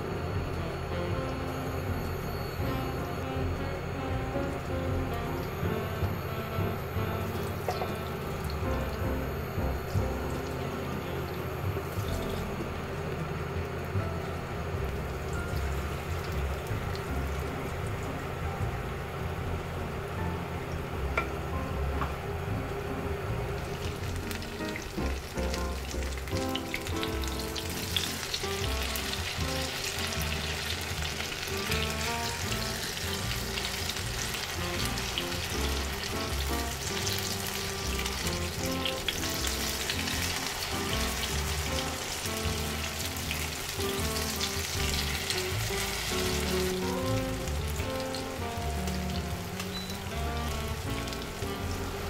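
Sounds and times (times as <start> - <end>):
background music: 0.0 - 52.0
pancakes sizzling in oil: 0.3 - 18.7, 23.6 - 52.0.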